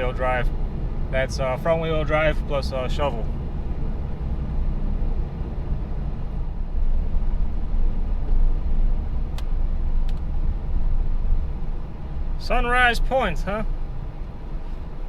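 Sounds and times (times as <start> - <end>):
car interior engine and road noise: 0.0 - 15.0.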